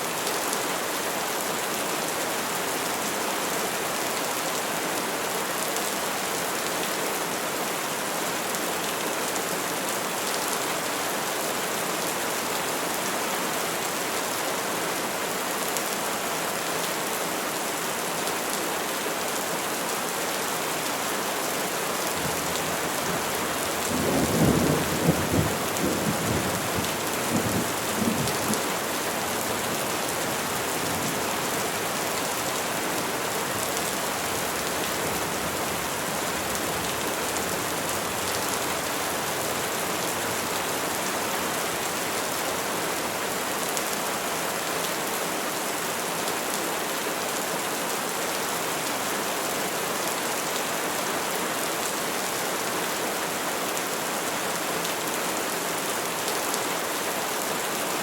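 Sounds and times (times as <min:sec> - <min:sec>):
rain falling on trees: 0:00.0 - 0:58.0.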